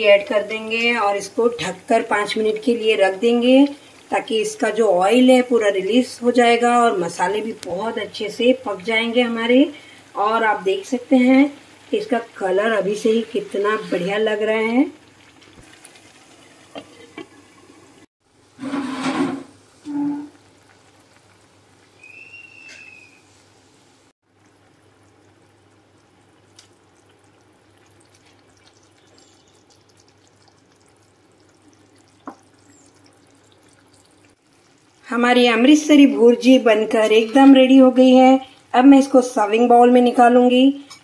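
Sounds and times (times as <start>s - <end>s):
gravy bubbling in a frying pan: 0.1s - 23.6s, 24.2s - 41.0s.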